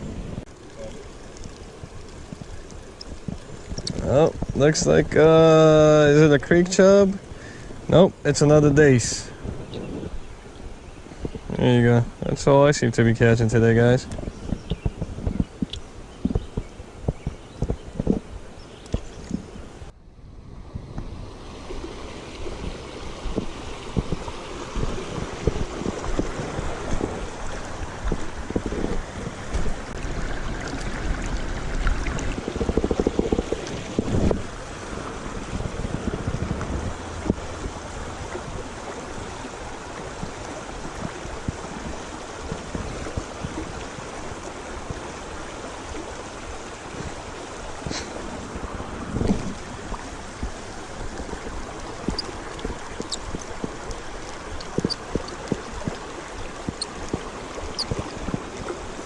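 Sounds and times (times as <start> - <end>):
creek water rushing: 0.0 - 59.0
wind buffeting microphone: 0.0 - 59.0.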